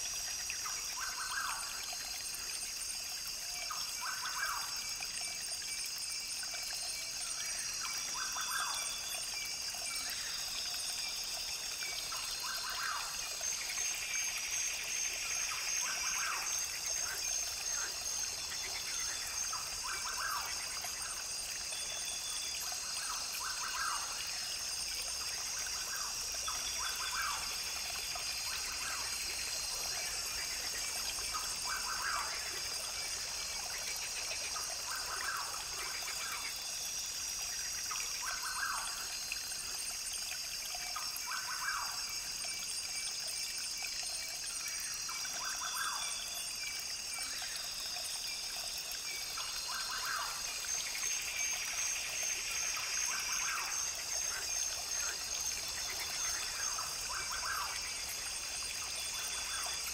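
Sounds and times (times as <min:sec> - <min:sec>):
brook trickling: 0:00.0 - 0:59.9.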